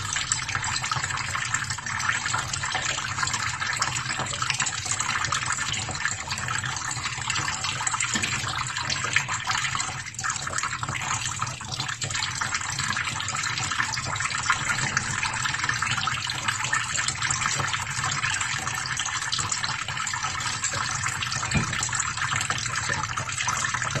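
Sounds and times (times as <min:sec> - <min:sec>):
tap water pouring into metal pan: 0:00.0 - 0:24.0.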